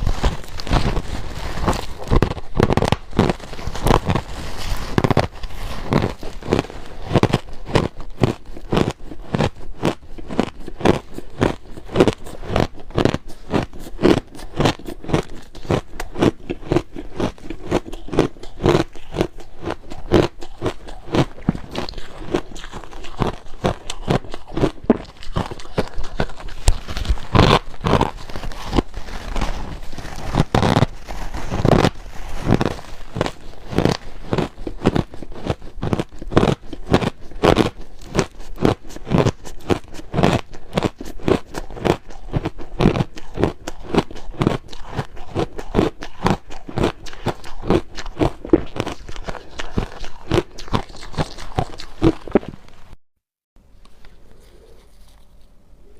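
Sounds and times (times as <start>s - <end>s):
person chewing ice: 0.0s - 53.0s.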